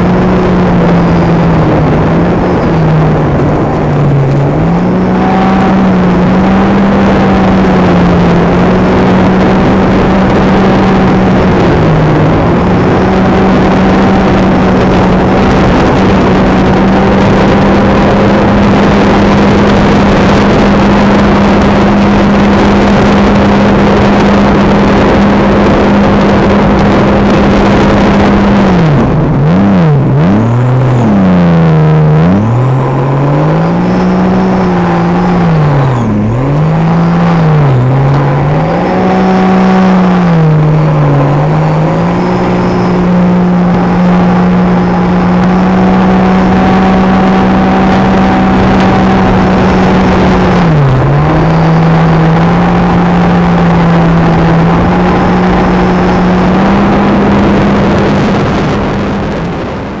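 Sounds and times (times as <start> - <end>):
jet ski engine: 0.0 - 60.0.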